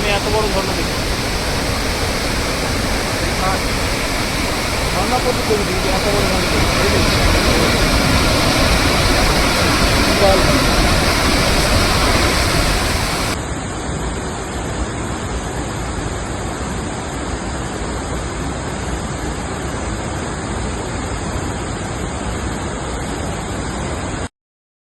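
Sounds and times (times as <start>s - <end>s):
waterfall rushing: 0.0s - 24.3s.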